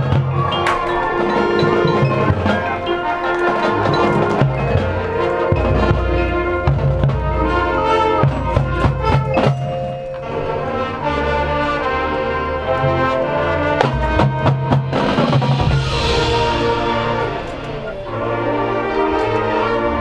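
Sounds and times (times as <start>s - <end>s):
drumline hits: 0.0s - 12.0s, 12.7s - 19.6s
marching band playing: 0.0s - 20.0s.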